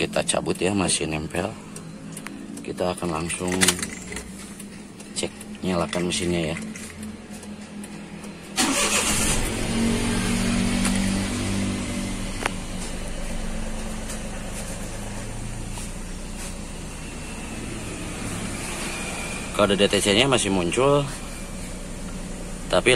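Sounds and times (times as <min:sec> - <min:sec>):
car engine starting and idling: 0:00.0 - 0:22.9.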